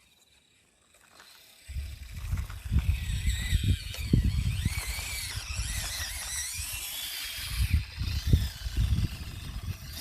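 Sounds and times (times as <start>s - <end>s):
small electric motor whining: 0.0s - 10.0s.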